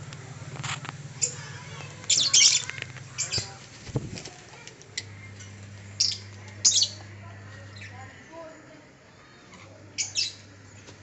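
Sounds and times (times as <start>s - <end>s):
low steady hum: 0.0s - 11.0s
birds squawking: 0.9s - 10.9s.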